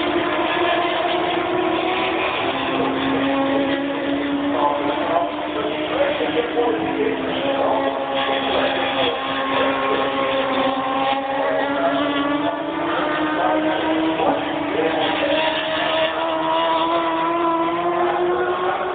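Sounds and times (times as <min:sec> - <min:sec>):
race bike engines droning: 0:00.0 - 0:18.9.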